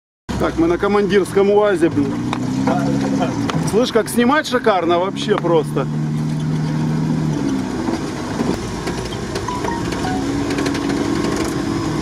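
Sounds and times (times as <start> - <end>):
off-road vehicle engine running: 0.3 - 12.0
road and wind noise: 0.3 - 12.0.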